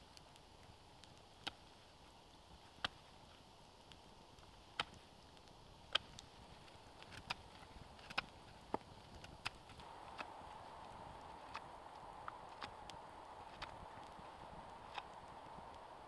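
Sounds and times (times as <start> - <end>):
burning wood popping: 0.0 - 16.0
campfire hiss: 0.0 - 16.0.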